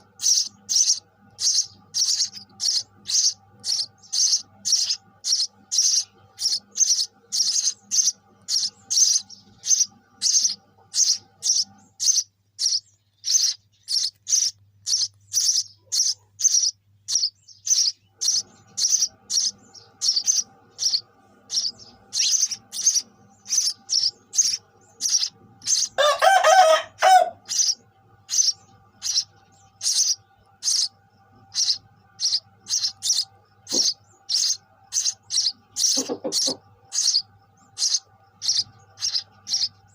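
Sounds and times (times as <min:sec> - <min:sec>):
lower-pitched bird call: 0:00.0 - 0:39.9
sparrow chirping: 0:00.0 - 0:39.9.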